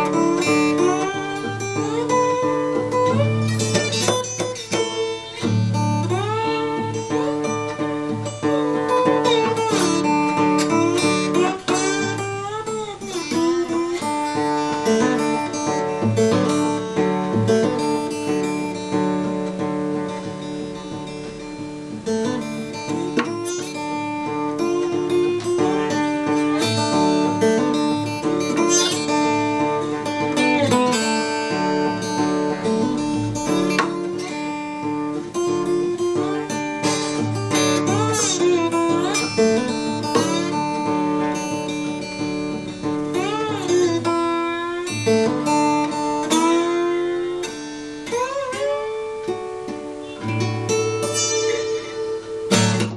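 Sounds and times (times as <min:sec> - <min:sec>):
slide blues acoustic guitar: 0:00.0 - 0:52.9.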